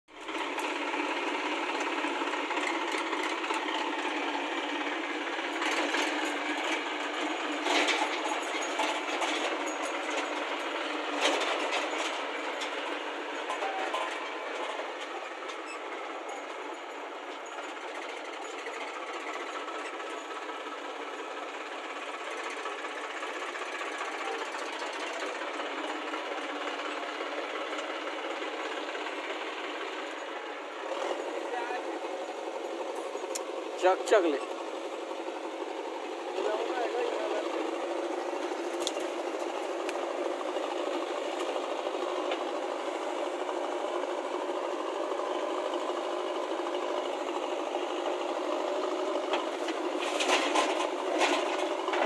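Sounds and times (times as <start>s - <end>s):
diesel engines running: 0.1s - 52.0s.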